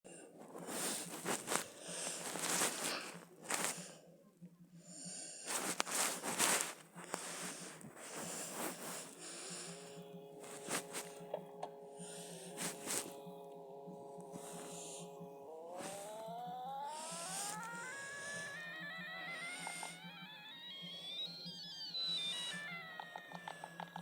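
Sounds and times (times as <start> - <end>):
steady multi-tone whine: 0.1 - 24.0.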